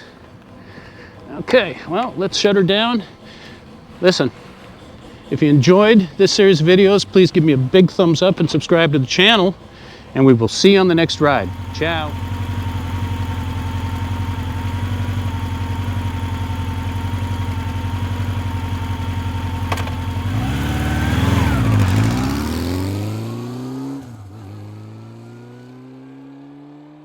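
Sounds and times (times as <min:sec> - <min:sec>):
vehicle engine idling and revving: 0:00.0 - 0:27.0.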